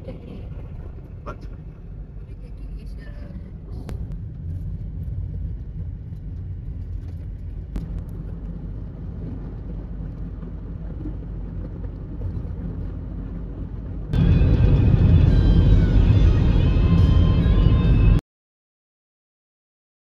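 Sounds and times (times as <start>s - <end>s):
car tyres and engine rumble: 0.0s - 18.2s.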